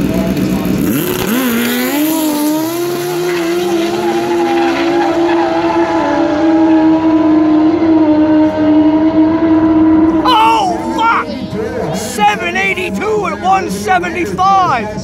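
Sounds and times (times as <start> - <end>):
snowmobile engine at full throttle: 0.0 - 15.0.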